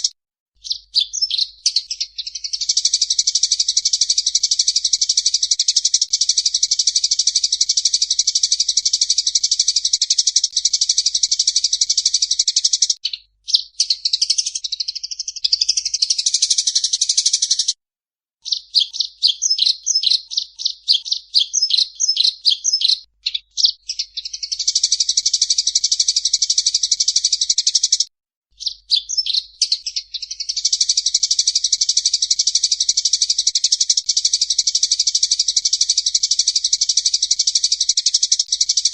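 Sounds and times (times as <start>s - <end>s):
songbird singing high trills: 0.0s - 17.8s, 18.4s - 28.0s, 28.6s - 38.9s.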